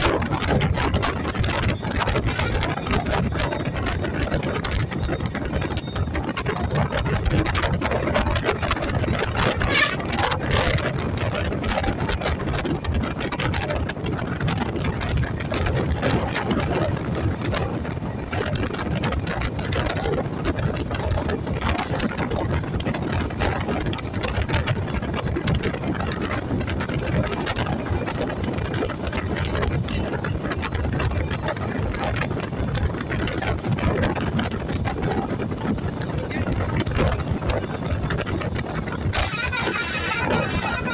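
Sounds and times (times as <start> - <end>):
moving vehicle rumble and rattle: 0.0 - 40.9.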